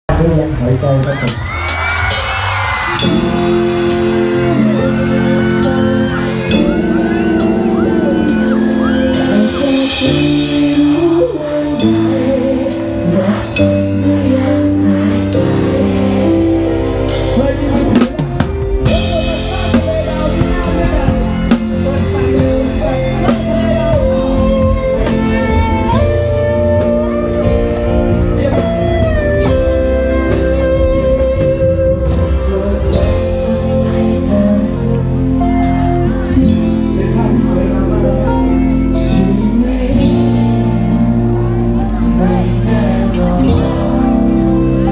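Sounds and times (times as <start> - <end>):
rock band playing live: 0.1 - 44.9
guitar notes: 2.9 - 44.9.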